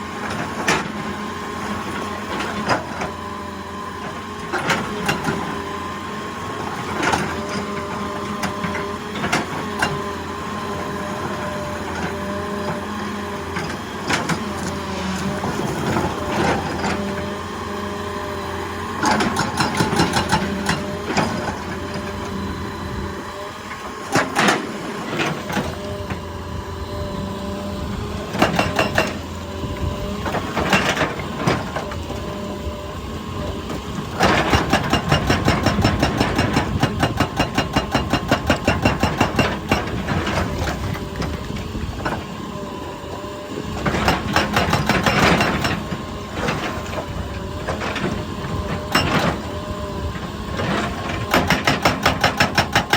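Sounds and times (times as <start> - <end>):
excavator engine running: 0.1 - 52.9
hydraulic hammer pounding rock: 6.4 - 26.3, 27.9 - 42.7, 43.5 - 52.9.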